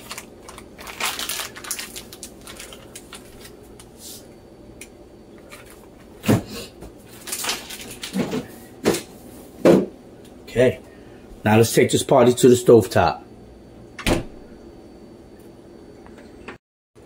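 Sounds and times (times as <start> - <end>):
low room hum: 0.0 - 16.6.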